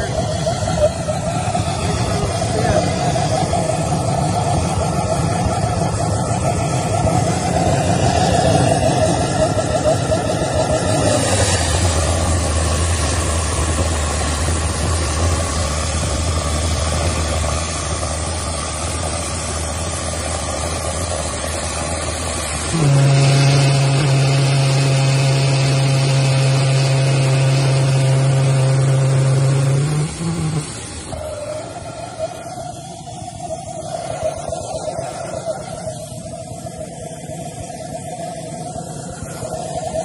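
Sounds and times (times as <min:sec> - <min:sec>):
pulse jet engine drone: 0:00.0 - 0:40.0.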